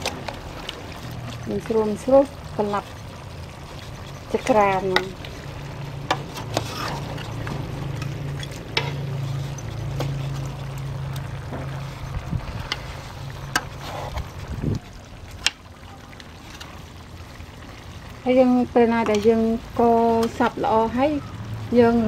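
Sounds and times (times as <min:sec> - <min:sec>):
utensil stirring a pot: 0:00.0 - 0:21.1.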